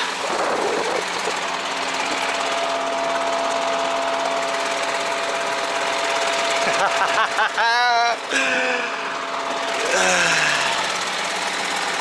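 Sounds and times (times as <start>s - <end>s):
diesel engine idling: 0.0s - 12.0s
thin steady whine: 0.0s - 12.0s.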